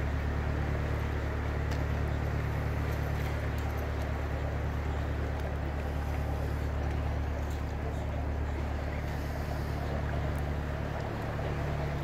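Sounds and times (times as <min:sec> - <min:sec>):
boat motor droning: 0:00.0 - 0:12.0
wind: 0:00.0 - 0:12.0.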